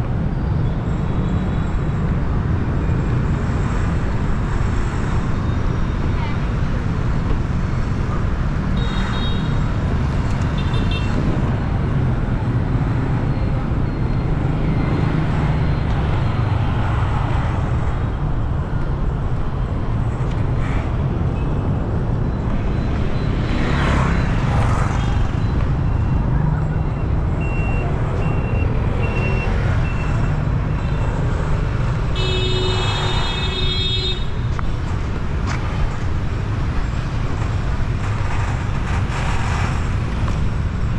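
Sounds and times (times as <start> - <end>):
traffic rumble: 0.0 - 40.9.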